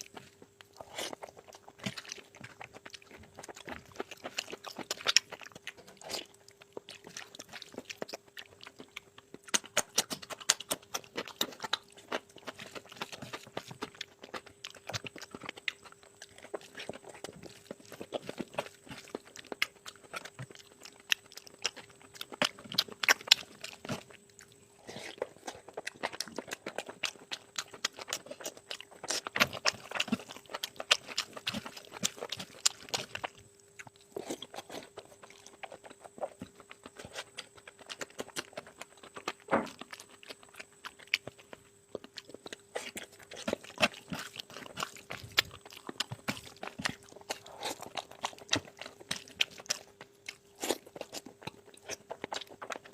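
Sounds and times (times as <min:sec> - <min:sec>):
person chewing with wet mouth smacks: 0:00.0 - 0:52.9.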